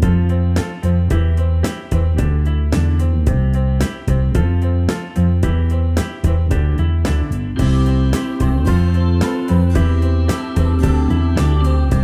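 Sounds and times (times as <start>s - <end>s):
keyboard chords: 0.0s - 12.0s
steady bass: 0.0s - 12.0s.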